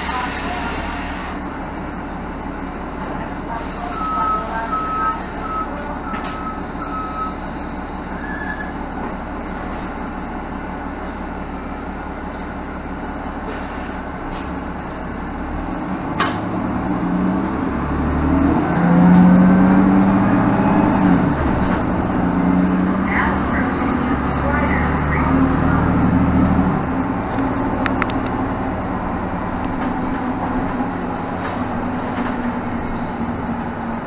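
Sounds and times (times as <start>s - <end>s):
diesel bus engine: 0.0s - 34.0s.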